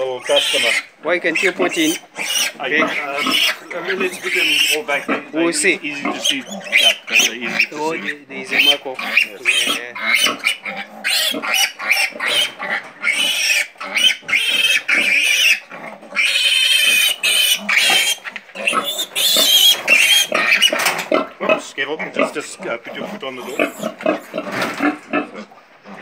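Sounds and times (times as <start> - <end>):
piglets squealing: 0.0 - 26.0.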